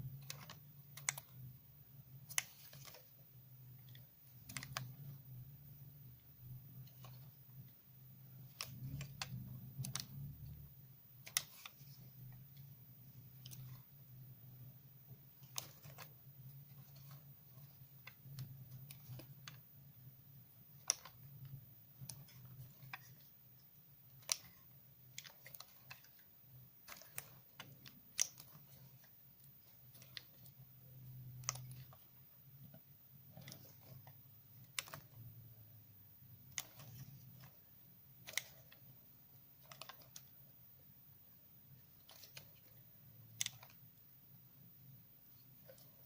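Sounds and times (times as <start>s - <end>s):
faint low hum: 0.0s - 46.0s.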